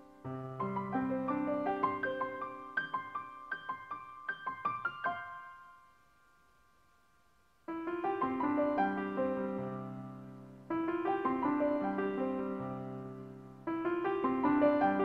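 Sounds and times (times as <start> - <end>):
piano music: 0.0 - 6.0, 7.7 - 15.0.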